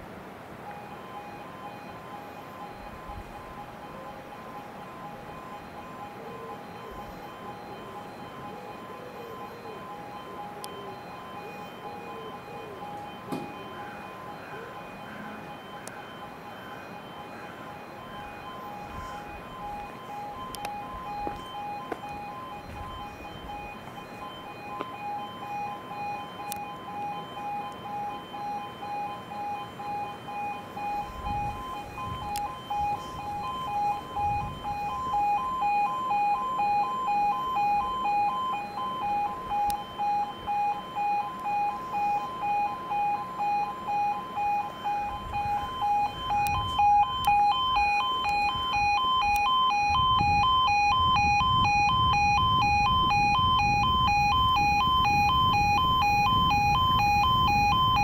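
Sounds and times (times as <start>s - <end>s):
level crossing alarm warble: 0.0s - 58.0s.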